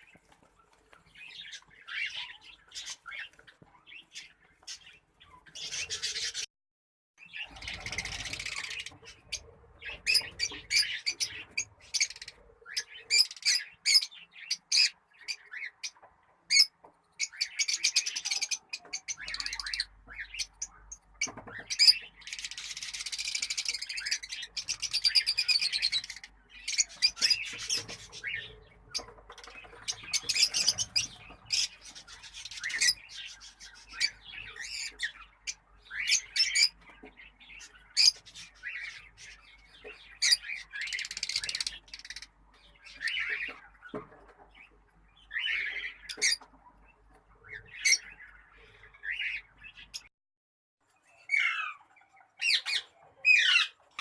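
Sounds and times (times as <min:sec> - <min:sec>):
caged birds chirping and squawking: 0:00.0 - 0:06.5, 0:07.2 - 0:50.1, 0:50.9 - 0:54.0.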